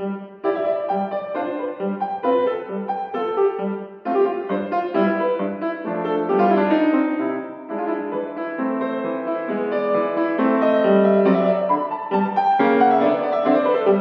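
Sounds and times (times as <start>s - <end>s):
light comic piano piece: 0.0s - 14.0s.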